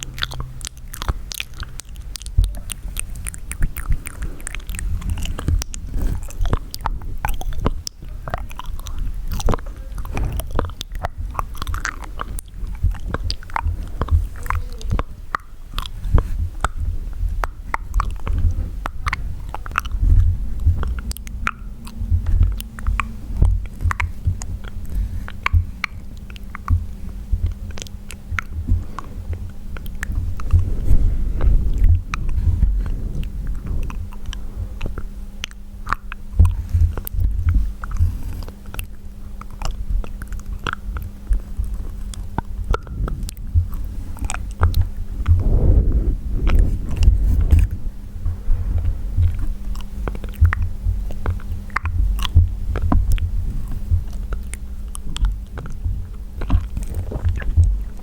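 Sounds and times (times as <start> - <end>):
tongue clicks and lip smacks: 0.0 - 47.8, 48.8 - 58.0.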